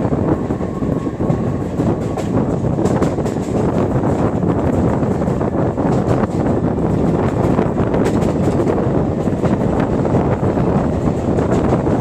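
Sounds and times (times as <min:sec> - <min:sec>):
train wheels rumbling on rails: 0:00.0 - 0:12.0
wind rushing over microphone: 0:00.0 - 0:12.0.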